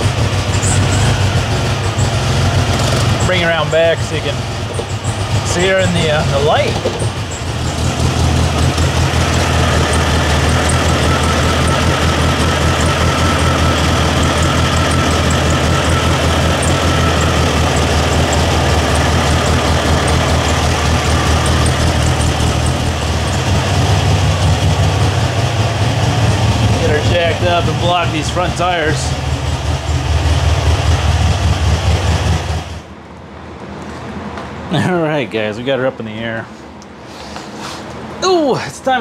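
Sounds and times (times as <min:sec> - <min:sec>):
car engine idling: 0:00.0 - 0:33.1.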